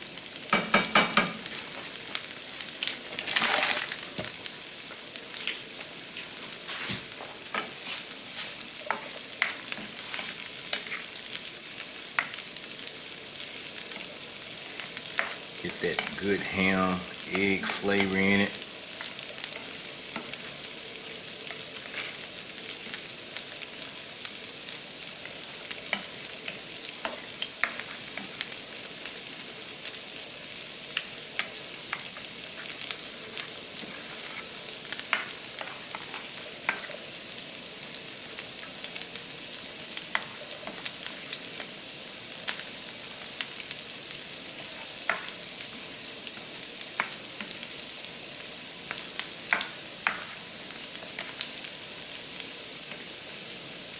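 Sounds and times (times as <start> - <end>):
eggs and ham frying: 0.0 - 53.9.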